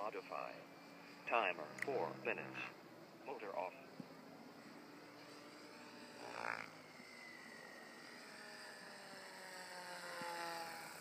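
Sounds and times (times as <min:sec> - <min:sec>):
helicopter rotor blades whirring: 0:00.0 - 0:11.0.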